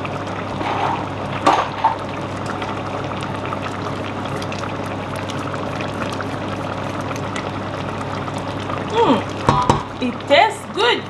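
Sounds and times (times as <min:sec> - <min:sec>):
soup simmering and bubbling: 0:00.0 - 0:10.8.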